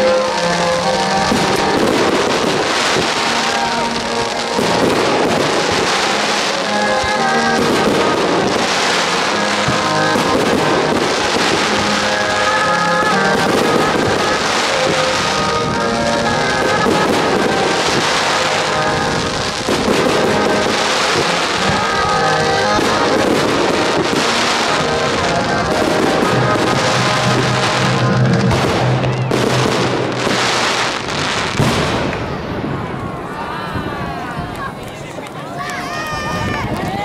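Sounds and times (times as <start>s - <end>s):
fireworks bursting and crackling: 0.0s - 33.4s
music playing: 0.0s - 34.4s.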